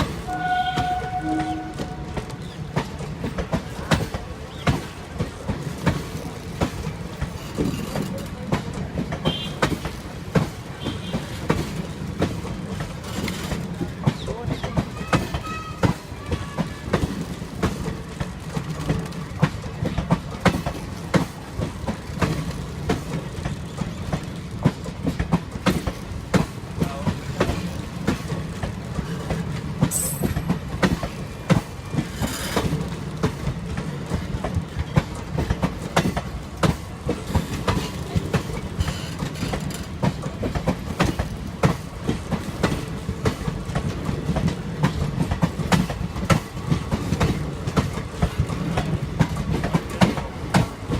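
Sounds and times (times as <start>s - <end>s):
train rumbling: 0.0s - 50.9s
wheels clattering over rail joints: 0.0s - 50.9s.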